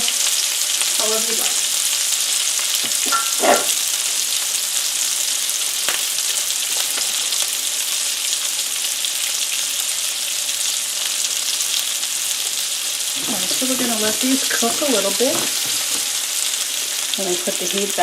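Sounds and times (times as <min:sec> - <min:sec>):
onions sizzling in frying pan: 0:00.0 - 0:18.0.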